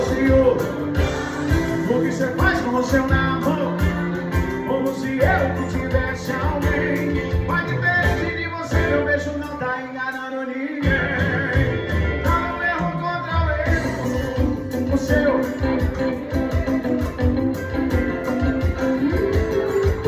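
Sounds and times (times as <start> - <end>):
samba percussion beat: 0.0 - 9.5, 10.8 - 20.0
person singing: 0.0 - 20.0.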